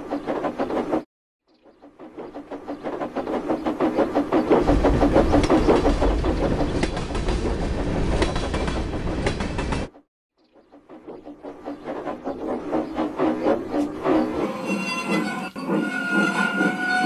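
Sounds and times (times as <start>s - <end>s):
steam train rhythmic chugging: 2.0s - 9.8s, 10.9s - 17.0s.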